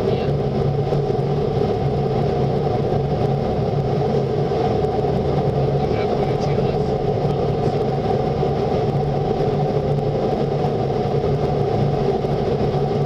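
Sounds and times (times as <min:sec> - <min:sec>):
car wash hum and rushing: 0:00.0 - 0:13.0.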